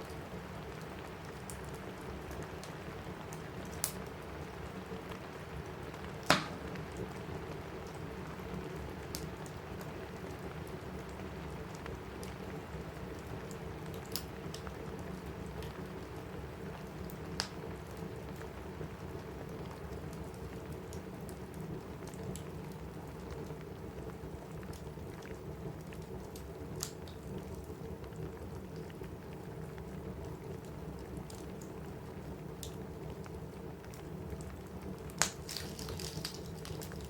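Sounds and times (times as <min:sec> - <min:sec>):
rain on a roof: 0:00.0 - 0:37.0
wood fire crackling and popping: 0:00.0 - 0:37.0.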